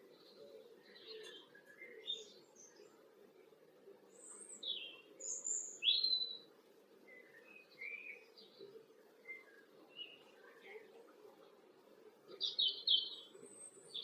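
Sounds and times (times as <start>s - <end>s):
low background noise: 0.0s - 14.0s
songbirds chirping: 0.0s - 14.0s.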